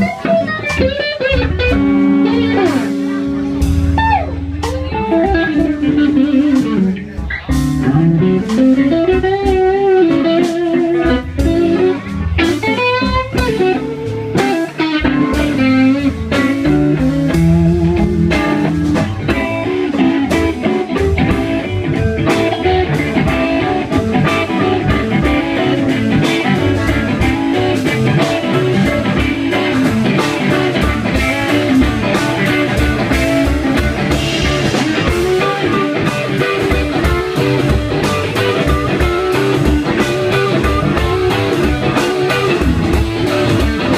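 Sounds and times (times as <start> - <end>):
blues band playing: 0.0 - 43.9
electric guitar lead: 0.0 - 43.9.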